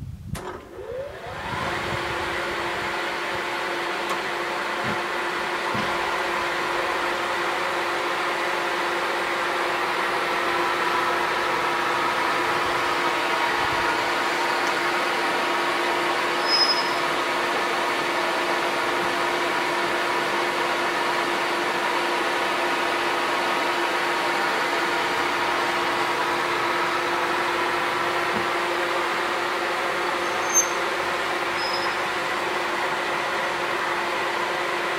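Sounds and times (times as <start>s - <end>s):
electric chainsaw cutting log: 0.6s - 34.9s
steady machine hum: 0.7s - 34.9s.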